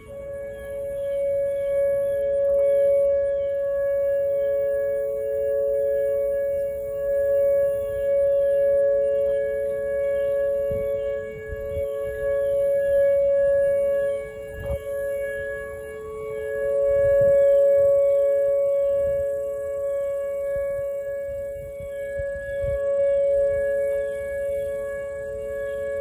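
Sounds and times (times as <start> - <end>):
two-tone warning siren: 0.0 - 26.0.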